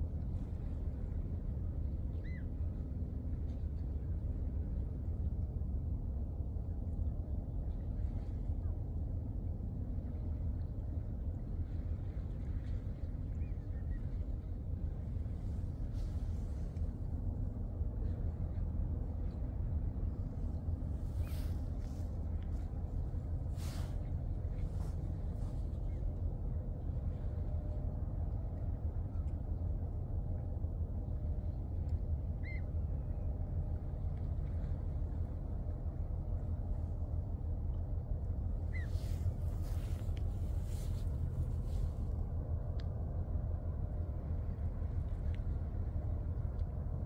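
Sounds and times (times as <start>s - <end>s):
ship engine rumble: 0.0s - 47.0s.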